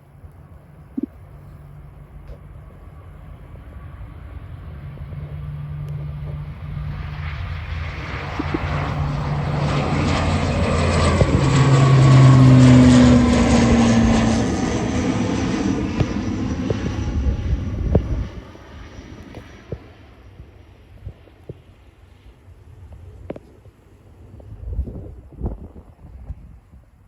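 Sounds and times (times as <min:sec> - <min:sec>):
turboprop airliner passing by: 0:00.0 - 0:27.0.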